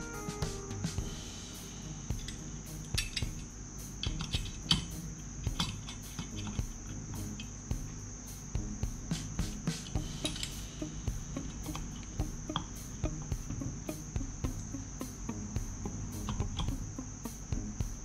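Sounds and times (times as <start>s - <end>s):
steady high-pitched whine: 0.0s - 18.0s.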